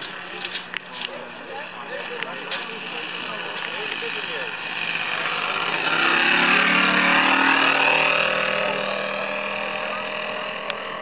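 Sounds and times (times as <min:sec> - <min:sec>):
model plane engine drone: 0:00.0 - 0:11.0.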